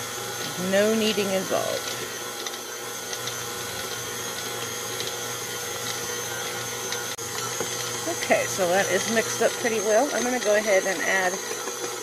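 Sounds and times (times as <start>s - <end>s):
mixer high whine: 0.0s - 12.0s
stand mixer motor hum: 0.0s - 12.0s.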